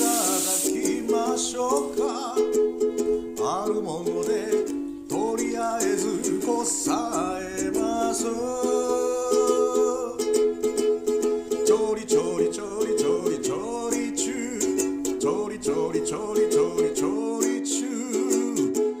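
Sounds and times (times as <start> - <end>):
ukulele strumming: 0.0 - 19.0.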